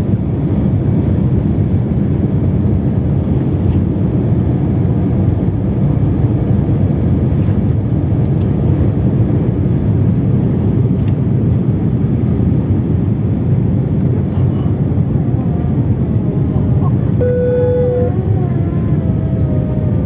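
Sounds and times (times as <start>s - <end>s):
airliner engines rumbling: 0.0s - 20.0s.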